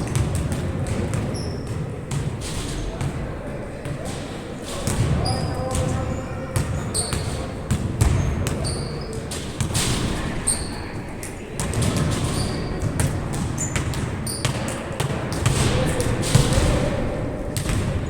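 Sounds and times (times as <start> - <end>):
ball bouncing on hard court: 0.0 - 3.2, 3.8 - 10.7, 11.6 - 16.9, 17.6 - 18.0
players' voices: 0.0 - 18.0.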